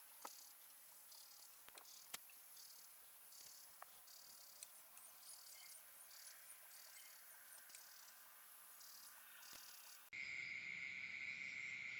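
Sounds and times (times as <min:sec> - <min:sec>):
crickets chirping: 0:00.0 - 0:11.9.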